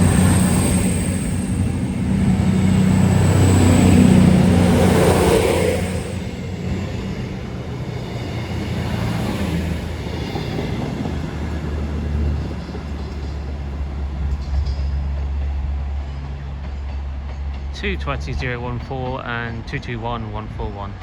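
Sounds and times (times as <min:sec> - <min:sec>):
train diesel engines droning: 0:00.0 - 0:21.0.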